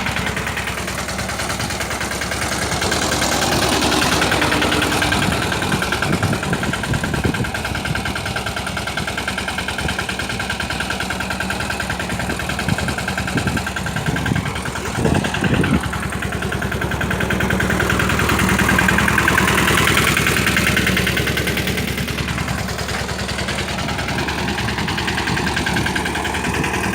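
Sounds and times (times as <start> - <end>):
mini tractor engine running: 0.0 - 26.9.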